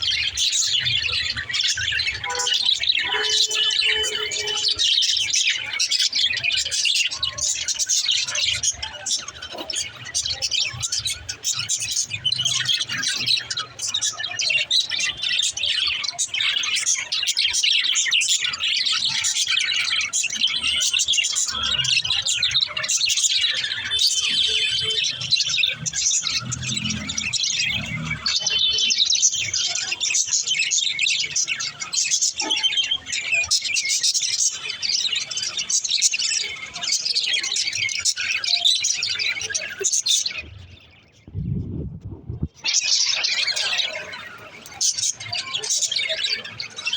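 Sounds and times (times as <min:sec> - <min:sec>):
budgerigars chirping: 0:00.0 - 0:41.0.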